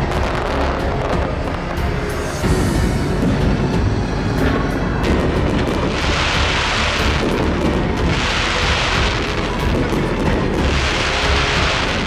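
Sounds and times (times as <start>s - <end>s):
background music: 0.0s - 12.0s
fireworks booms and crackling: 0.0s - 12.0s.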